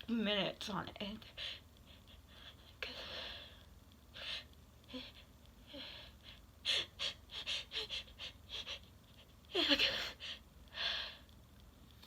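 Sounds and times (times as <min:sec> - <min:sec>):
soft breaths: 0:01.1 - 0:12.0.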